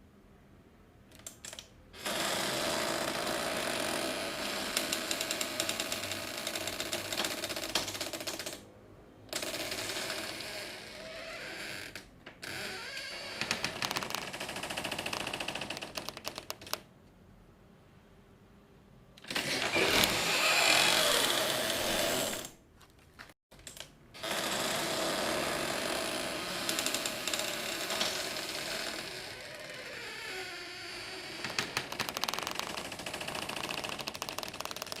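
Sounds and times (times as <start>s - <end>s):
door rattling and creaking: 2.1s - 8.6s, 9.4s - 16.9s, 19.2s - 22.6s, 24.2s - 35.0s.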